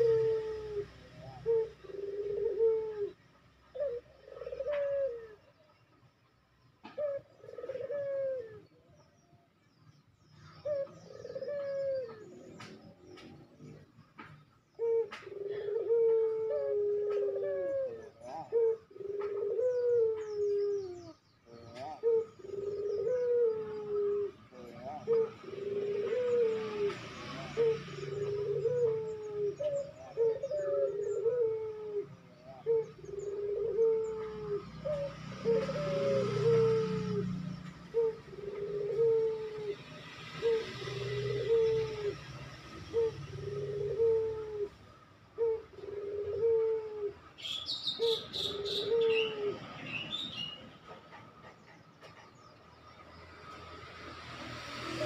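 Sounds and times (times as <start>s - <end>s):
dove cooing: 0.0s - 5.9s, 6.8s - 9.0s, 10.4s - 52.2s, 54.7s - 55.0s.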